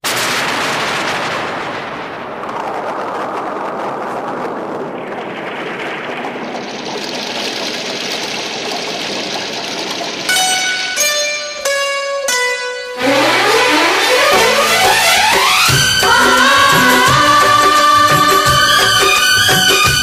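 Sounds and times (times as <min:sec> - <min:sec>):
heavy rain: 0:00.0 - 0:11.6, 0:13.0 - 0:20.0.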